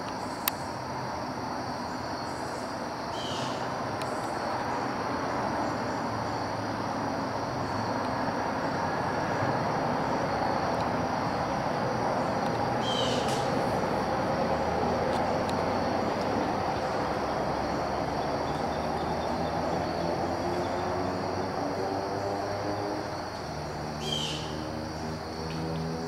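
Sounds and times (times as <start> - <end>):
rushing woodland background noise: 0.0 - 26.0.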